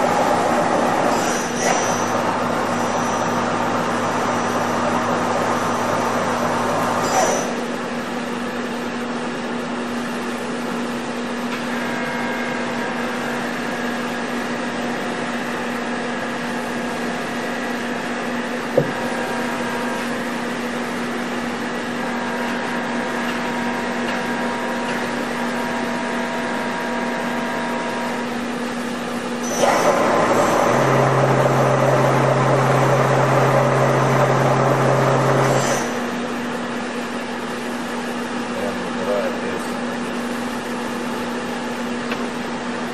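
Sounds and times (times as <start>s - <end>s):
milling machine hum: 0.0s - 42.9s.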